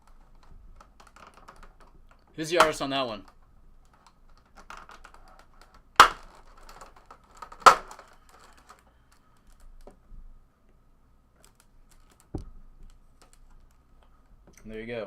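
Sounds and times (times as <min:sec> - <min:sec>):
cards clicking and rustling: 0:00.0 - 0:10.0, 0:11.4 - 0:14.6.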